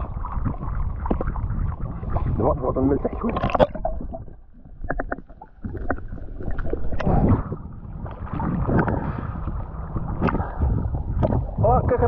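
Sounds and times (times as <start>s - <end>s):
wind buffeting microphone: 0.0s - 4.8s, 6.8s - 12.0s
seawater sloshing and splashing: 0.0s - 12.0s.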